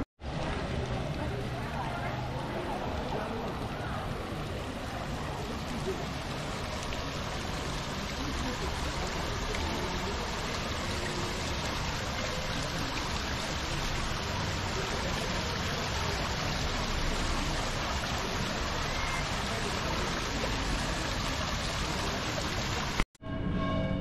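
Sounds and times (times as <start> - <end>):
fountain water splashing and trickling: 0.2 - 23.1.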